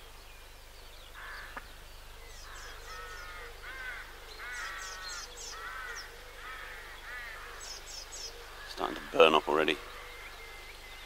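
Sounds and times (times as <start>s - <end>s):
birds calling: 0.0s - 11.0s
small birds chirping: 0.0s - 11.0s.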